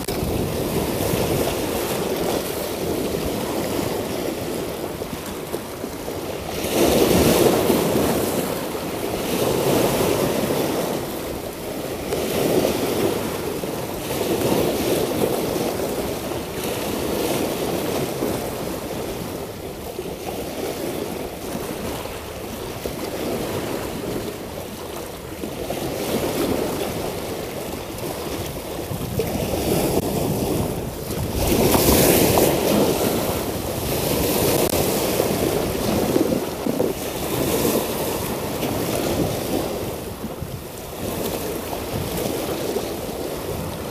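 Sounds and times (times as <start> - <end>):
waves breaking over rocks: 0.0 - 43.9.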